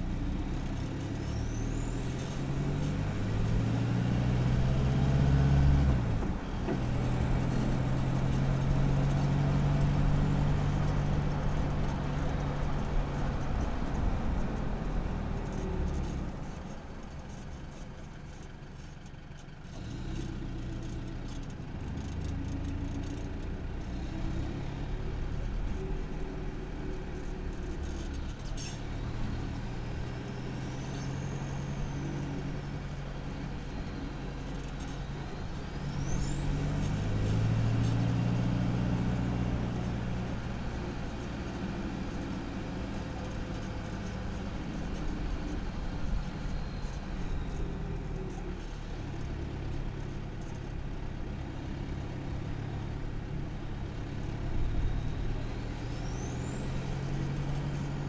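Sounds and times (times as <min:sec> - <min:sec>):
diesel engine pulling: 0:00.0 - 0:58.0
road and tyre noise: 0:00.0 - 0:58.0.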